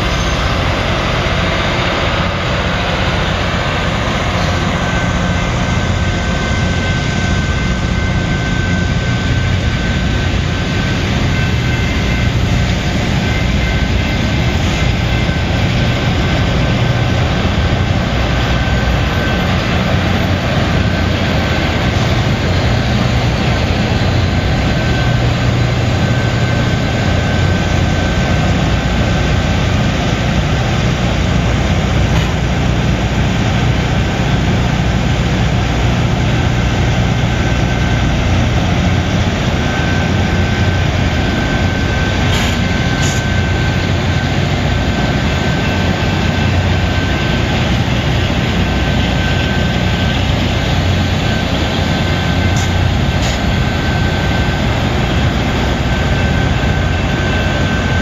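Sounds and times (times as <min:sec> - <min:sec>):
train engines rumbling: 0:00.0 - 0:58.0.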